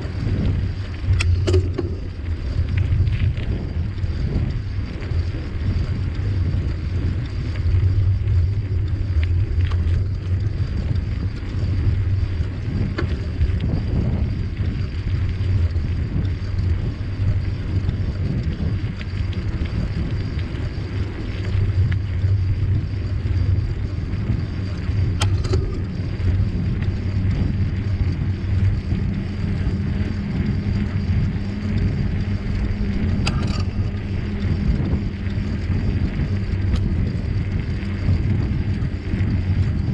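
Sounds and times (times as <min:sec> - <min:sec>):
bicycle rattles: 0:00.0 - 0:39.9
wind and bicycle tyre noise: 0:00.0 - 0:39.9.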